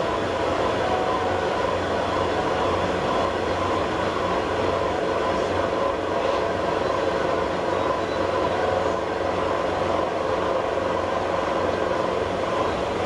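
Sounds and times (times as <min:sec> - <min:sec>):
heavy machinery droning: 0:00.0 - 0:13.0
machine hums: 0:00.0 - 0:13.0.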